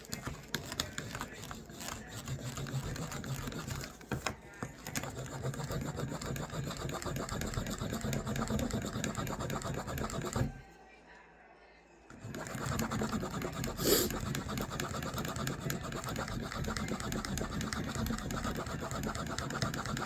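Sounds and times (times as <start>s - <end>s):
tool rubbing leather edge: 0.0s - 10.6s, 12.1s - 20.0s.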